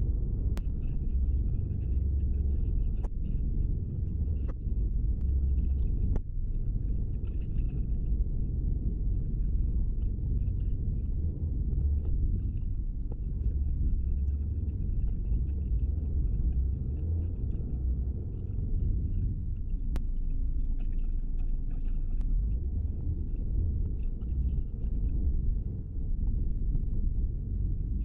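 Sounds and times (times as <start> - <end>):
road and engine rumble in car: 0.0 - 28.0.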